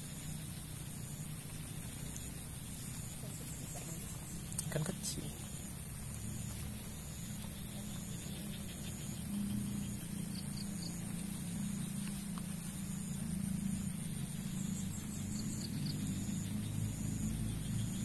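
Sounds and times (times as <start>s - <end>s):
constant low rumble: 0.0s - 18.0s
rain falling on pond: 0.0s - 18.0s.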